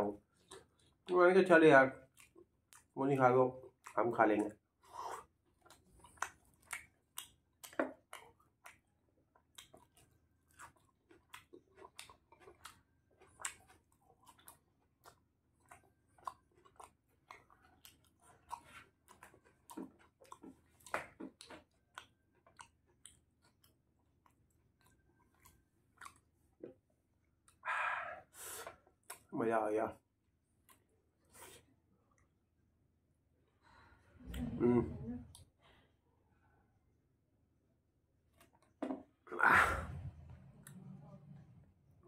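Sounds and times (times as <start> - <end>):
man chewing food: 0.1 - 1.1, 2.0 - 3.0, 3.6 - 29.3, 30.2 - 32.6, 38.2 - 42.0.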